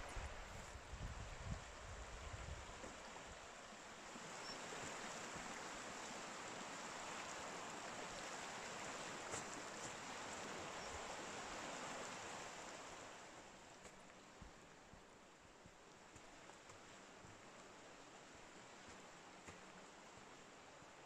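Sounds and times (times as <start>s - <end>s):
river rushing over rocks: 2.8s - 21.0s.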